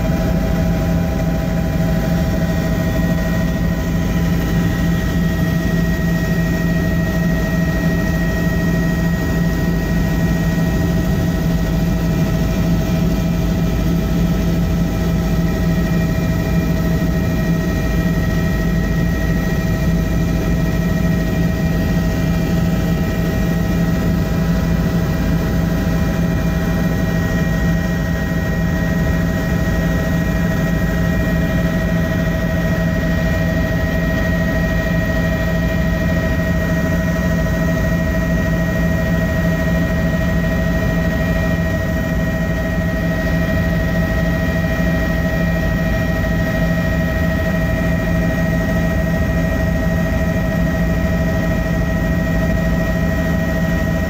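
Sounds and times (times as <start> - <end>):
constant whining tones: 0.0 - 54.0
helicopter engine and rotors droning: 0.0 - 54.0.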